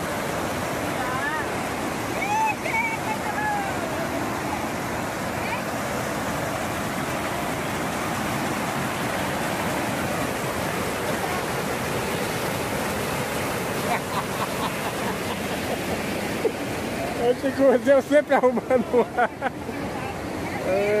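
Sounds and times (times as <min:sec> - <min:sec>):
waterfall pouring: 0:00.0 - 0:21.0.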